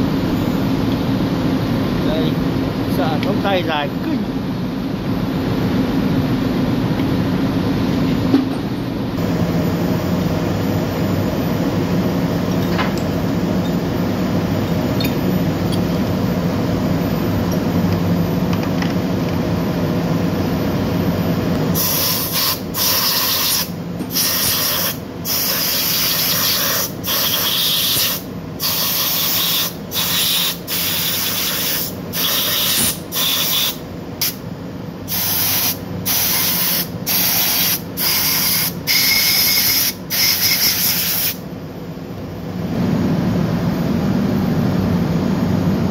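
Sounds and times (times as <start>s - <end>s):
machinery hum: 0.0s - 45.9s.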